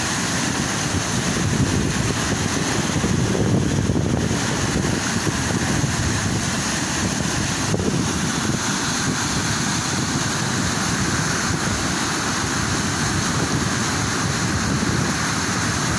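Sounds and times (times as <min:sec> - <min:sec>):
water rushing over drop: 0:00.0 - 0:15.9.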